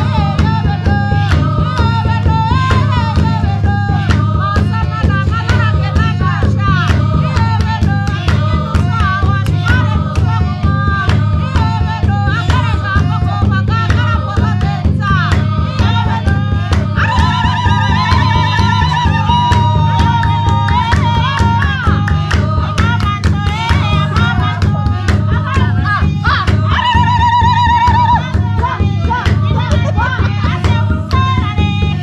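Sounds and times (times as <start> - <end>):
fast drum beat: 0.0 - 32.0.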